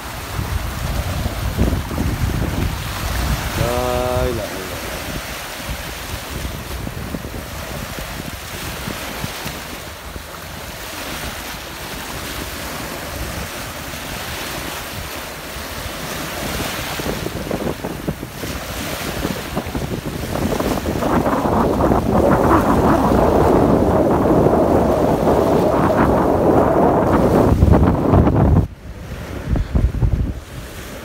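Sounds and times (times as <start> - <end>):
sea waves washing ashore: 0.0 - 31.0
wind buffeting microphone: 0.0 - 31.0.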